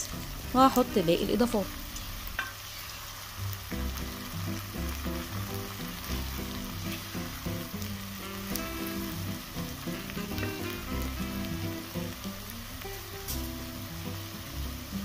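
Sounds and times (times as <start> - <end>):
background music: 0.0 - 2.3, 3.4 - 15.0
lentils sizzling in a pot: 0.0 - 15.0.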